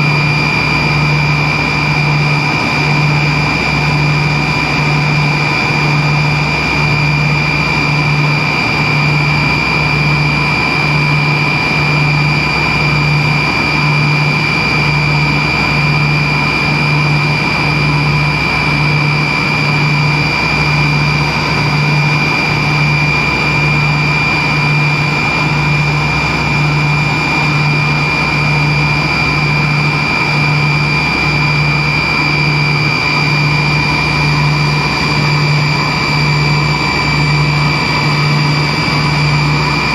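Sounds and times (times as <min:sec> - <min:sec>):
jet engine high whine: 0:00.0 - 0:39.9.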